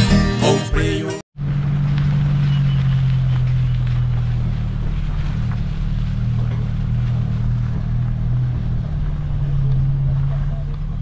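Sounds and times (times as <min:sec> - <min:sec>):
engine droning: 0:00.4 - 0:11.0.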